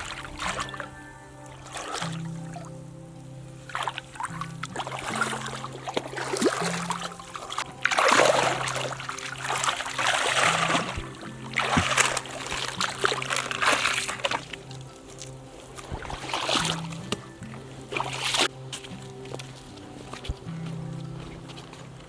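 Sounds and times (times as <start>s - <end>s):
low steady background tones: 0.0s - 22.0s
water splashing and sloshing: 0.0s - 22.0s.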